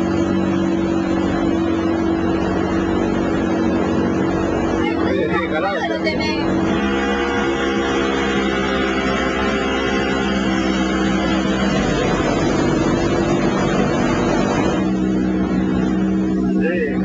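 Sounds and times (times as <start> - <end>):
motorboat engine droning: 0.0 - 17.0
rush of water noise: 0.0 - 17.0.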